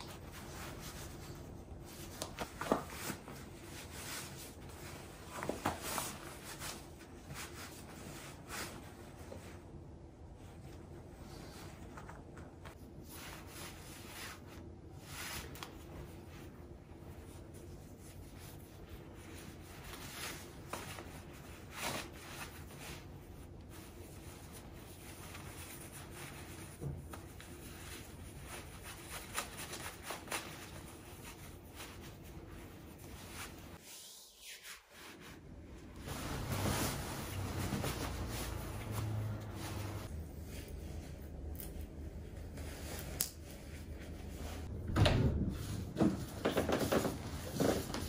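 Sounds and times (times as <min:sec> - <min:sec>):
jacket rustling: 0:00.0 - 0:33.8, 0:34.9 - 0:44.8
necktie fabric rustling: 0:00.0 - 0:33.9, 0:34.7 - 0:44.8.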